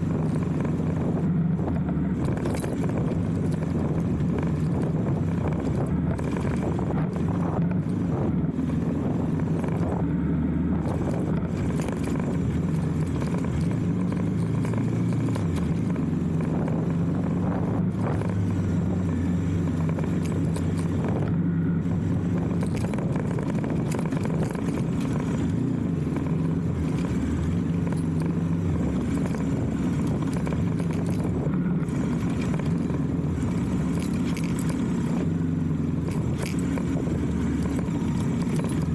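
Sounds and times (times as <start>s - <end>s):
light clicks and rattles: 0.0s - 38.9s
motorcycle engine running: 0.0s - 38.9s.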